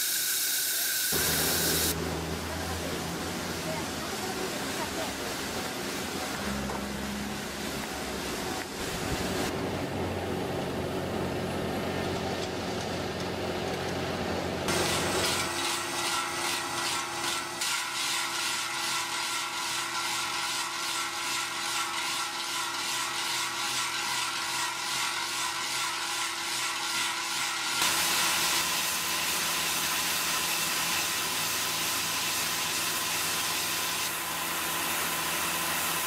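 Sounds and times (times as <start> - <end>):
cutter grinding asphalt: 0.0 - 36.0.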